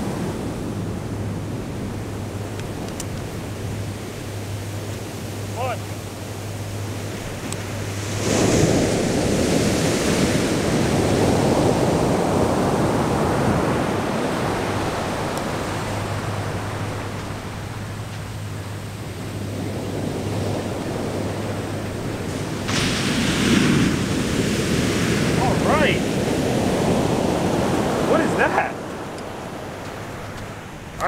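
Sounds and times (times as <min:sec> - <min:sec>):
surf breaking on beach: 0:00.0 - 0:31.0.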